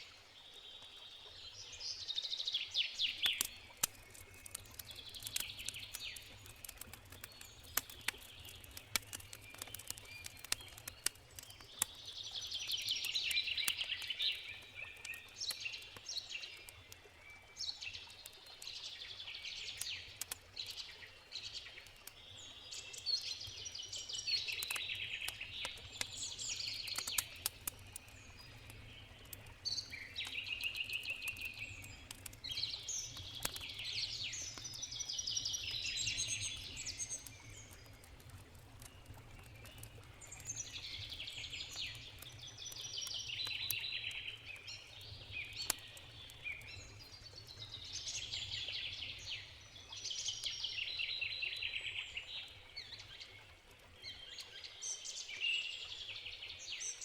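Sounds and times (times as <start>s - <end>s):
campfire crackling: 2.8s - 55.0s.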